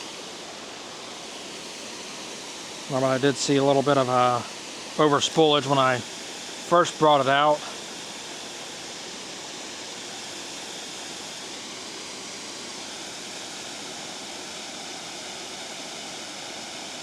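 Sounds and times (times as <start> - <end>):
water rushing through spillway: 0.0 - 17.0.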